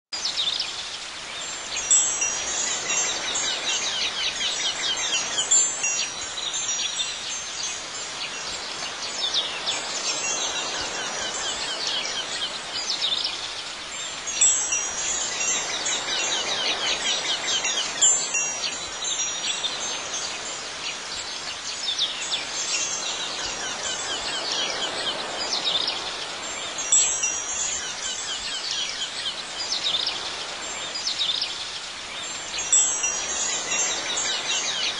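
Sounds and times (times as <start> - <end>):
wind chimes ringing: 1.4 - 31.5, 32.2 - 34.9.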